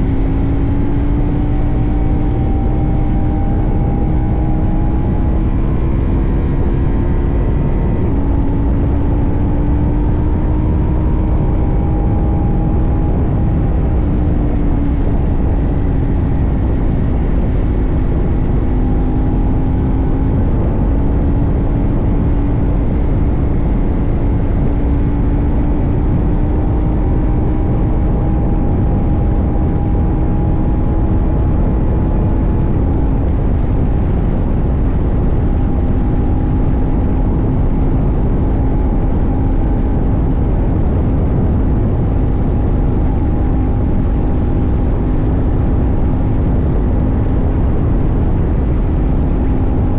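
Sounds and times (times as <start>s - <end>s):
motorcycle engine cruising: 0.0s - 49.9s
wind and road noise: 0.0s - 49.9s.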